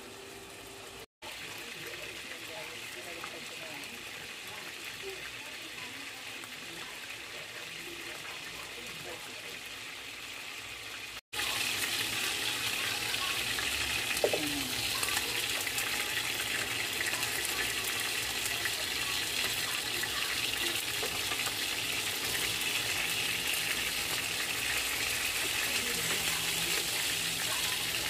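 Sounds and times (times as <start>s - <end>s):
chicken sizzling in oil: 0.0s - 28.0s.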